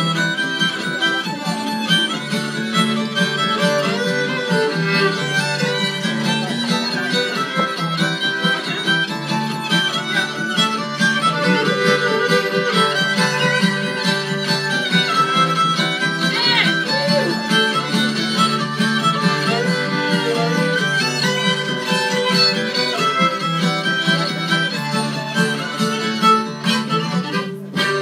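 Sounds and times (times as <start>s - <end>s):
bowed fiddles: 0.0s - 28.0s
strummed acoustic guitar: 0.0s - 28.0s.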